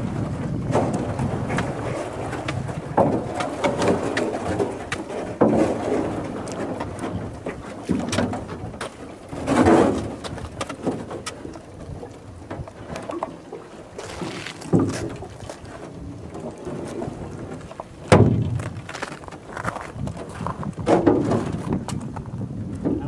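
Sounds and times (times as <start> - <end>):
knocks and scrapes against hull: 0.0 - 23.0.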